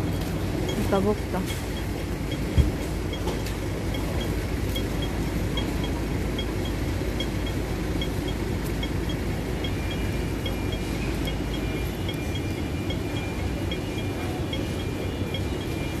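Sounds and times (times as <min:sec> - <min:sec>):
crossing signal beeping: 0:00.0 - 0:16.0
road traffic rumble: 0:00.0 - 0:16.0.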